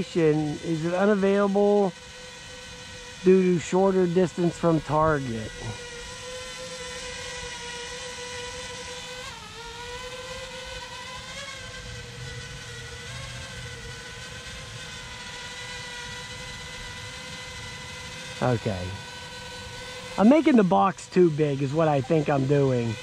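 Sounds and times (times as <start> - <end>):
quadcopter drone hovering: 0.0 - 23.0.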